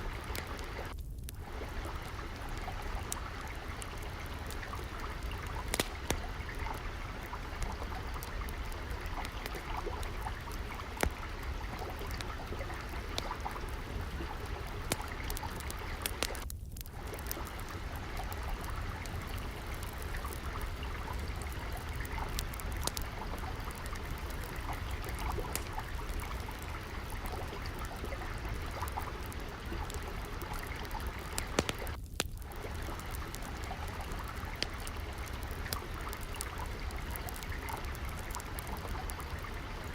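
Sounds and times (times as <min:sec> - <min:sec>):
water trickling: 0:00.0 - 0:39.9
wood fire crackling: 0:00.0 - 0:39.9.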